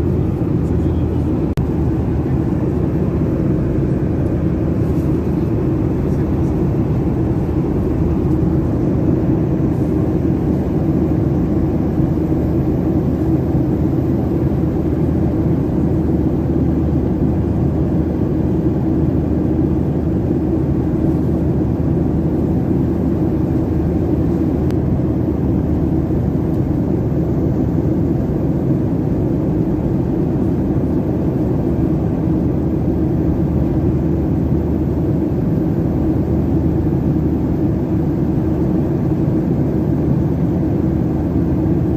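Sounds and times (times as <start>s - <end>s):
engine and airflow roar in cabin: 0.0s - 41.9s.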